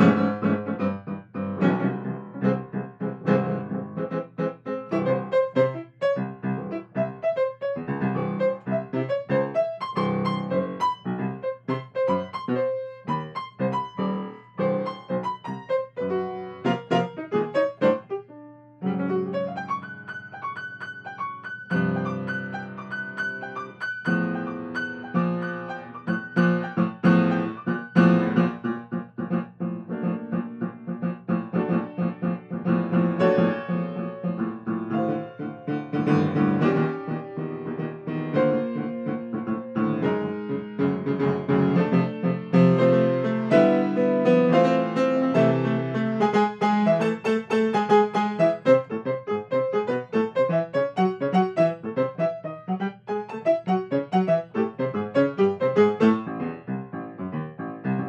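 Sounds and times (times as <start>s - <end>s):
grand piano improvisation: 0.0s - 58.0s.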